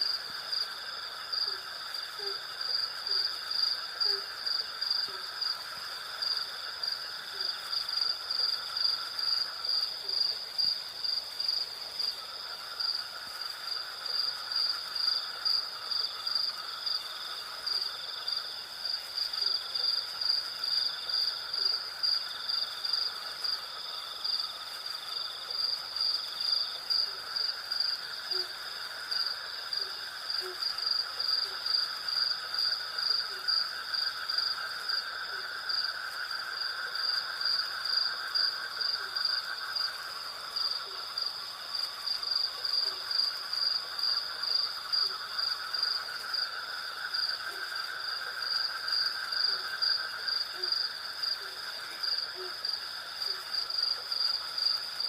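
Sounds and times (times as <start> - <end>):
crickets chirping: 0.0 - 55.0
low insect drone: 0.0 - 55.0.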